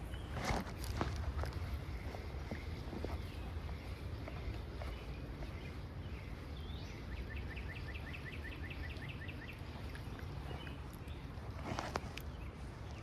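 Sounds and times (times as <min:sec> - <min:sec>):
songbird singing trill: 0:00.0 - 0:13.0.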